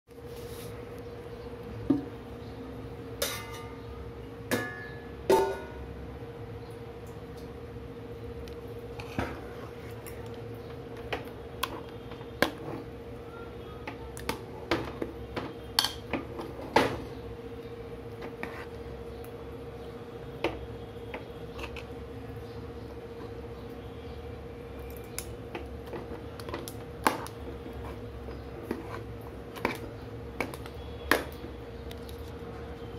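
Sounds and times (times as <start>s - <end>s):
faint steady hum: 0.1s - 32.9s.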